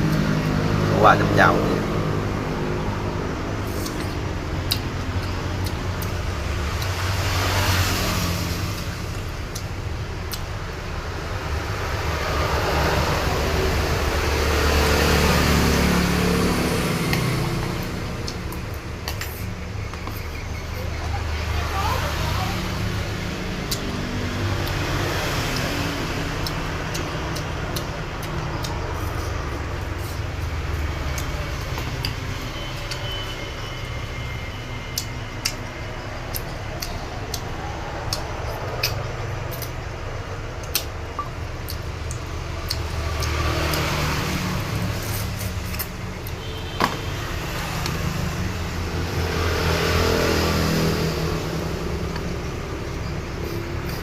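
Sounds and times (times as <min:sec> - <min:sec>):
road traffic rumbling: 0:00.0 - 0:54.0.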